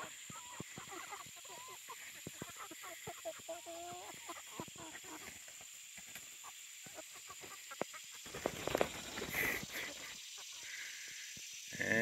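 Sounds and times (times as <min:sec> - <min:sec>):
chickens clucking: 0:00.0 - 0:11.4.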